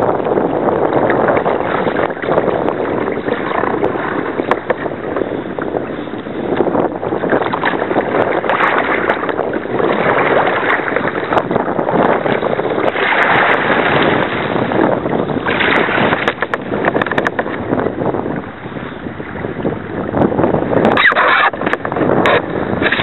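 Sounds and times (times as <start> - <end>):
water splashing around kayak: 0.0 - 23.0
wind on microphone: 0.0 - 23.0.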